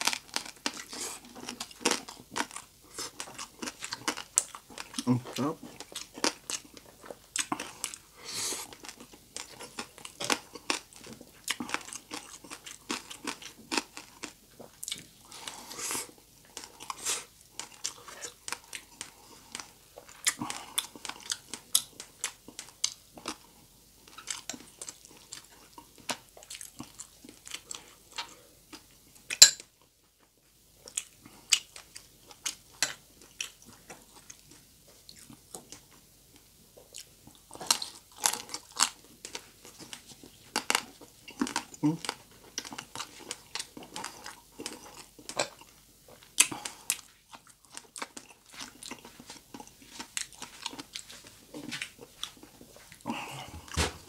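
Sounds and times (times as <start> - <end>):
crunchy chewing of fried pork: 0.0 - 54.0.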